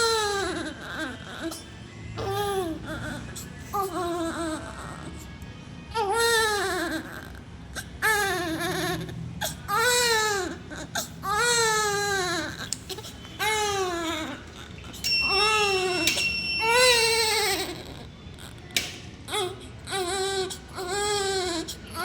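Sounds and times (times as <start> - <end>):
newborn baby crying: 0.0 - 5.3, 6.0 - 18.6, 19.3 - 22.0.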